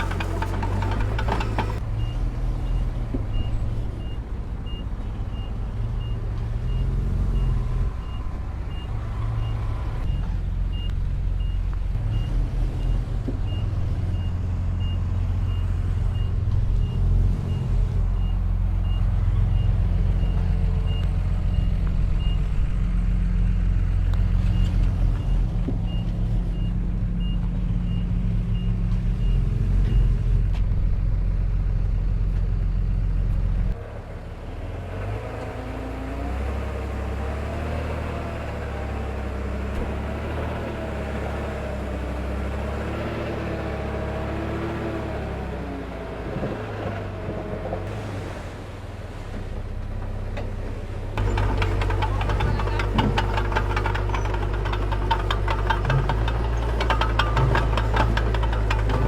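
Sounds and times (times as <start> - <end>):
diesel construction machinery running: 0.0 - 48.2, 49.4 - 59.0.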